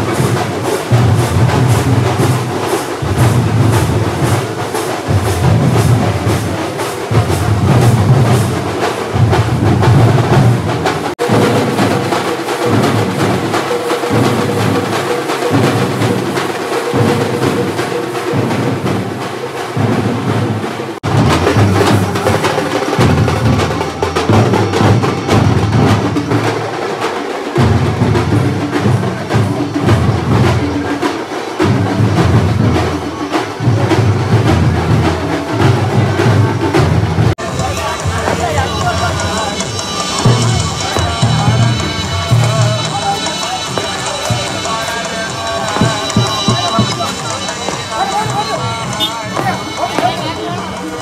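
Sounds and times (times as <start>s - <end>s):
drums beaten with sticks: 0.0s - 51.0s.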